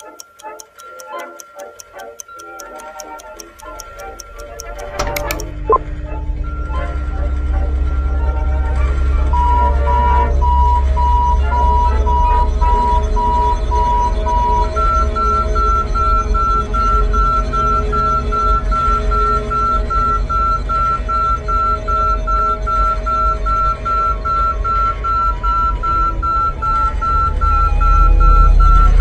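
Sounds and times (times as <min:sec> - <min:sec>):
electronic alarm beeping: 0:00.0 - 0:05.8, 0:09.3 - 0:29.0.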